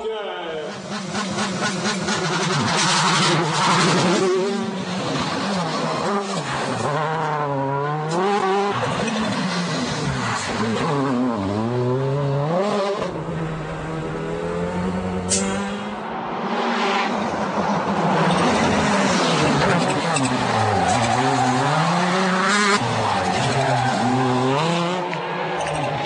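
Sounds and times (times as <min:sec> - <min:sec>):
rally car engine revving hard: 0:00.7 - 0:16.0, 0:17.9 - 0:26.0.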